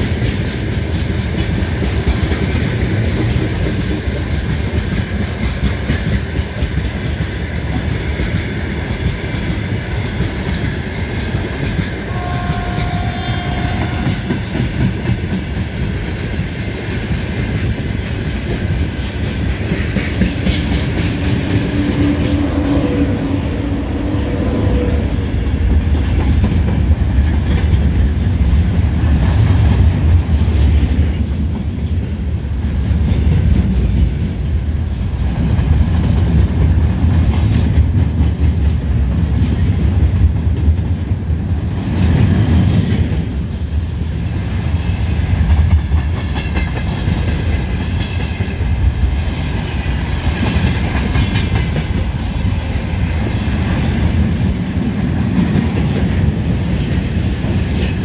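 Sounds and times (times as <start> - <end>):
train wheels clicking over rail joints: 0.0 - 22.6, 25.2 - 58.0
heavy train rumble: 0.0 - 58.0.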